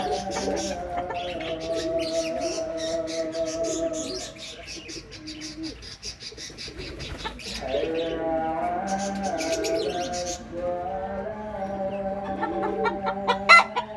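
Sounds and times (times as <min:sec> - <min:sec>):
low cooing bird calls: 0:00.0 - 0:13.9.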